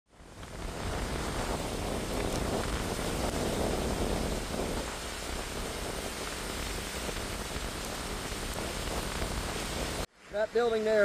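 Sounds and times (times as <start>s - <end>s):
wind on microphone: 0.1s - 10.1s
floodwater rushing: 0.6s - 10.8s.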